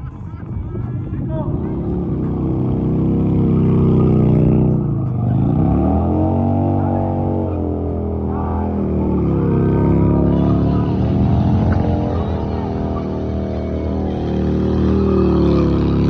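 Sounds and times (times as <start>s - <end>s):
motorcycle engine revving: 1.0s - 16.0s.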